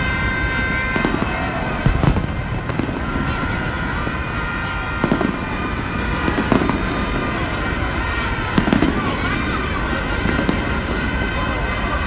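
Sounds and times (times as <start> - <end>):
crowd voices: 0.0 - 12.0
fireworks bangs: 0.0 - 12.0
vuvuzela horns blaring: 0.0 - 12.0.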